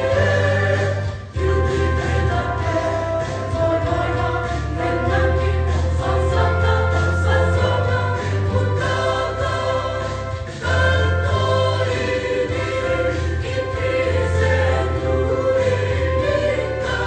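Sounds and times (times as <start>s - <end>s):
mixed choir singing a hymn: 0.0s - 17.0s.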